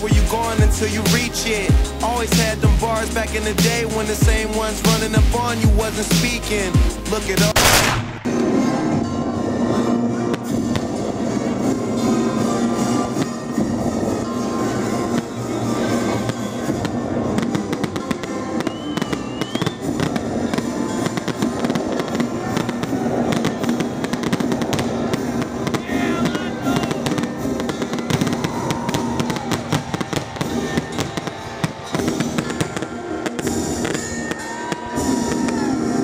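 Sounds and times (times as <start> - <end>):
firework shells bursting and crackling: 0.0 - 36.0
music playing: 0.0 - 36.0.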